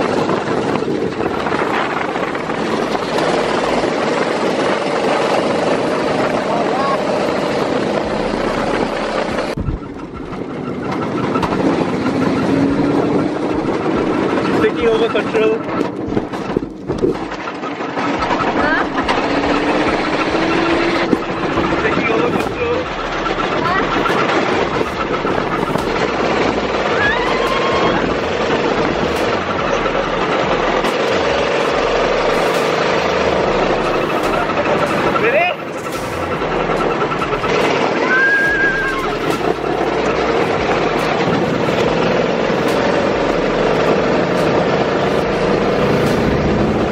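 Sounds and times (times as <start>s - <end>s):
go-kart engine running: 0.0s - 46.9s
wind noise on microphone: 0.0s - 46.9s.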